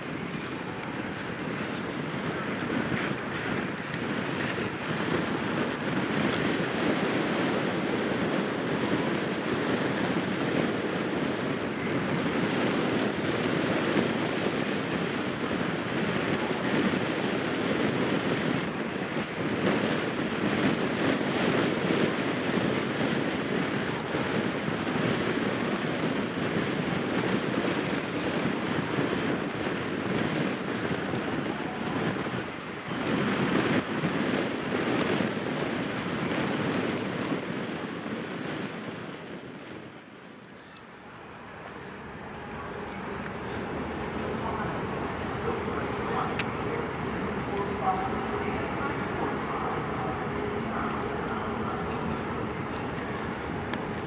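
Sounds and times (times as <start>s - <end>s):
strong wind on microphone: 0.0s - 54.0s.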